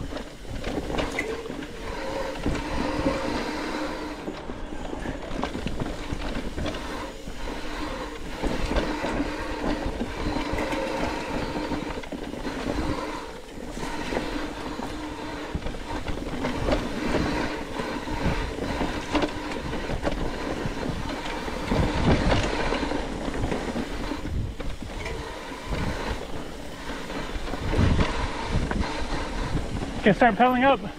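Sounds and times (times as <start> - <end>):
bike chain and frame rattle: 0.0 - 30.9
bike tyre noise on dirt: 0.0 - 30.9.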